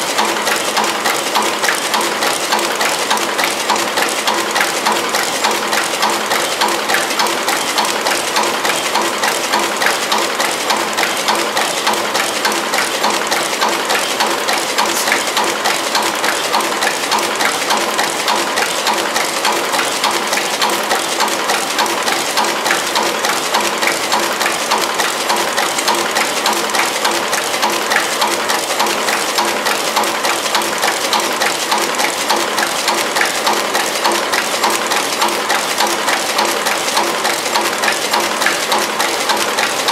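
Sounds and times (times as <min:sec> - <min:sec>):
packing machine clattering: 0:00.0 - 0:39.9.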